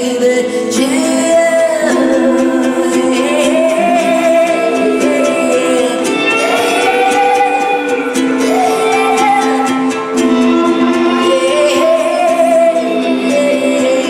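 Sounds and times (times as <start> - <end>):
woman singing: 0.0 - 14.0
band chords: 1.4 - 14.0.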